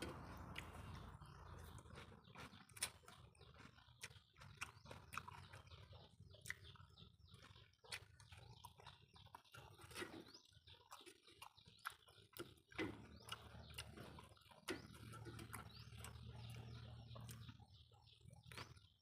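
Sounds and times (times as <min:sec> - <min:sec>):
chewing and mouth smacks: 0:00.0 - 0:19.0.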